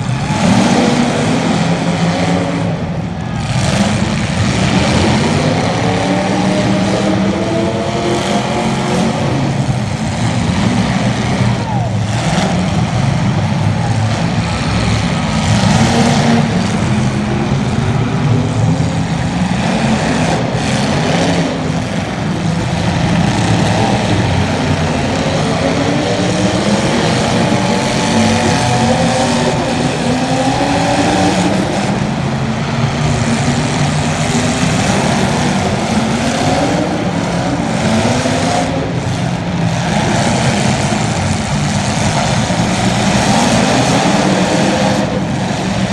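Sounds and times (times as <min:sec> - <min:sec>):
racing car engines revving: 0:00.0 - 0:45.9.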